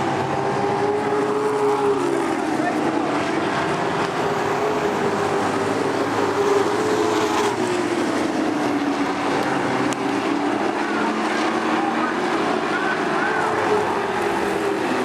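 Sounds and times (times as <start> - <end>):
truck engines droning: 0.0 - 15.0.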